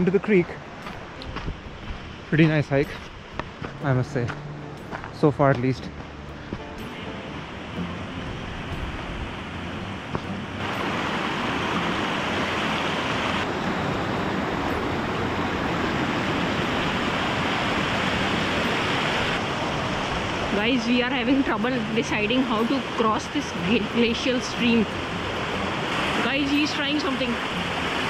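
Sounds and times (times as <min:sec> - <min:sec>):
river water rushing over rocks: 0:00.0 - 0:28.0.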